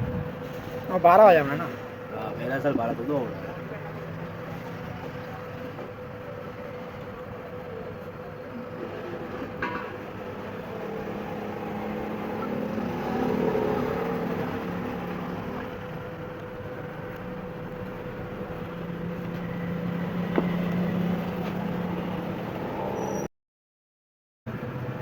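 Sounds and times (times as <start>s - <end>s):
mechanical hum: 0.0s - 23.3s.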